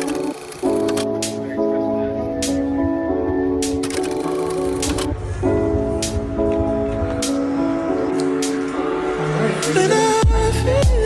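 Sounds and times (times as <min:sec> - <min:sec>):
sustained chords with light beat: 0:00.0 - 0:11.0.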